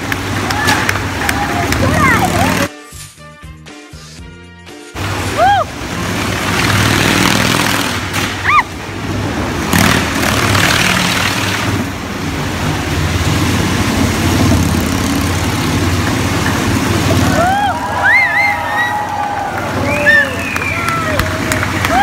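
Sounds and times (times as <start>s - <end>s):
motorcycles revving: 0.0s - 2.7s, 5.0s - 22.0s.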